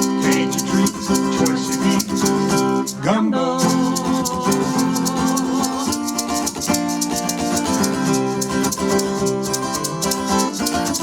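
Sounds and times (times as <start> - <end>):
shaker rhythm: 0.0 - 11.0.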